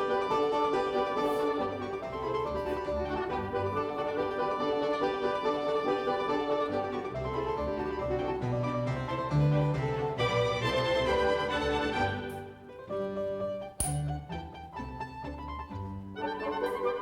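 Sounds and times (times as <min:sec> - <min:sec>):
classical piano piece: 0:00.0 - 0:17.0
strings: 0:00.0 - 0:17.0.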